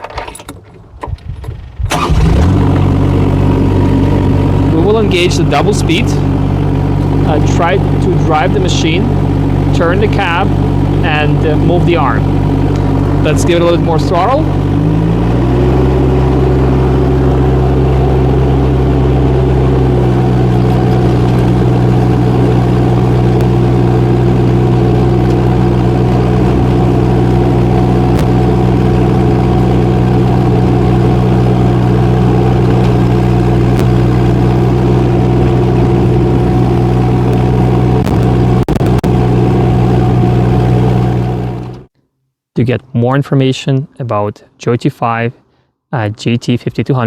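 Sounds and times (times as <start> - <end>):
diesel excavator engine running: 1.6 - 41.9.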